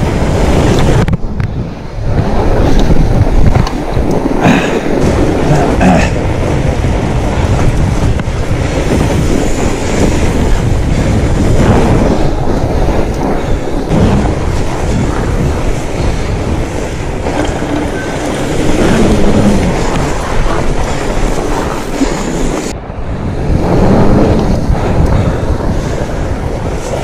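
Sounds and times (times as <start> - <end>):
low rumble of wind and vibration: 0.0 - 27.0.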